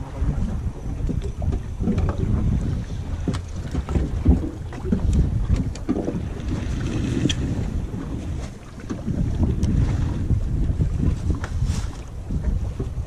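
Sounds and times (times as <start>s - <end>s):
faint water sounds: 0.0s - 13.0s
wind buffeting microphone: 0.0s - 13.0s.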